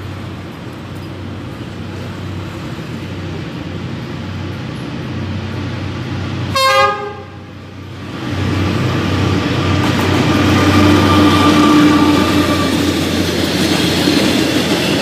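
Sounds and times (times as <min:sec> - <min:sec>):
freight train engine and rail noise: 0:00.0 - 0:15.0.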